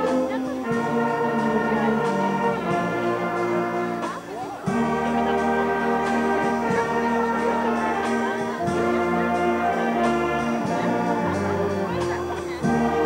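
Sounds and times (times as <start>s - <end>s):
wind band playing slow chords: 0.0s - 13.0s.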